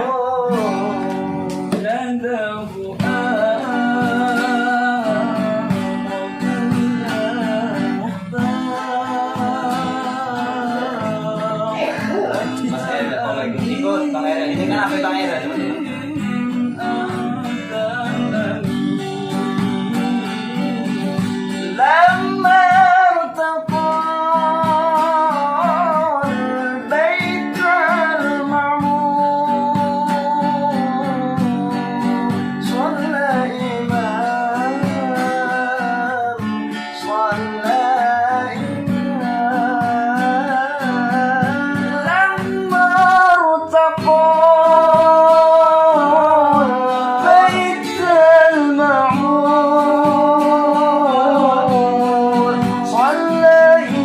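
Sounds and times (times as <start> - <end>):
person singing with vibrato: 0.0 - 54.0
plucked acoustic guitar: 0.0 - 54.0.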